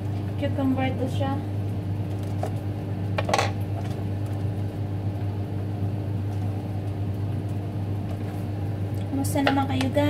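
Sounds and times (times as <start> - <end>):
kitchen appliance humming: 0.0 - 10.0.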